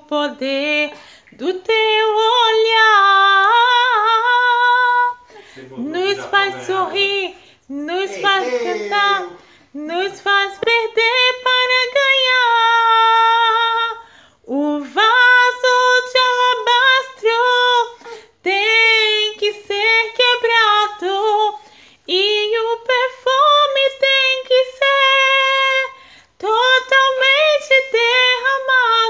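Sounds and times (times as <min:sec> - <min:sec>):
woman singing unaccompanied: 0:00.0 - 0:29.0.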